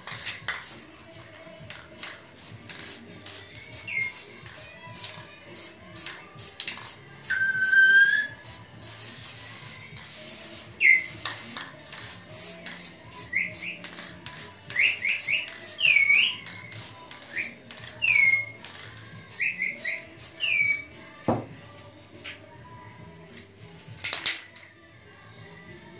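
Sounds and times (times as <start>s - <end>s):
spray can hissing in bursts: 0.0s - 20.9s.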